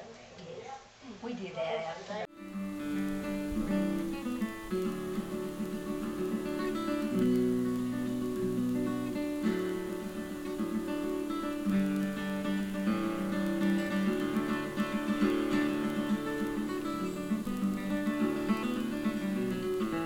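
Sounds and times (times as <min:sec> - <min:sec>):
acoustic guitar strumming chords: 0:02.3 - 0:20.0.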